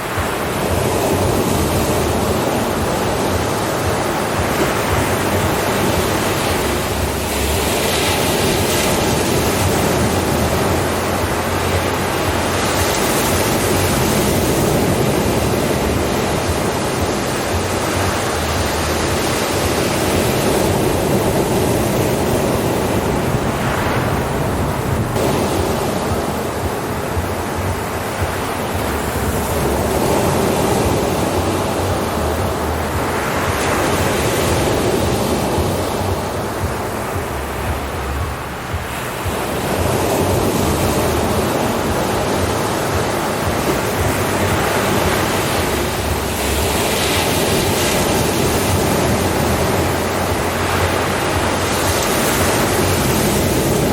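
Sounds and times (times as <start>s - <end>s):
waves breaking: 0.0s - 53.9s.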